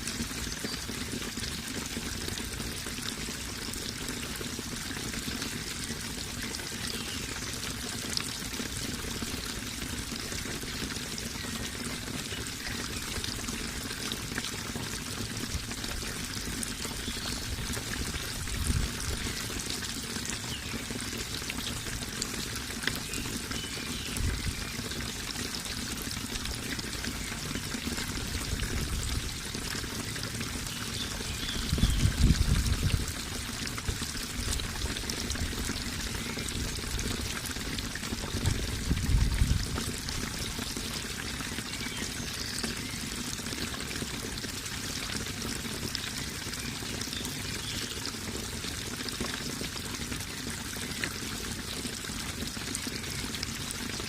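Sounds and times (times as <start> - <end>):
running water splashing: 0.0 - 54.0.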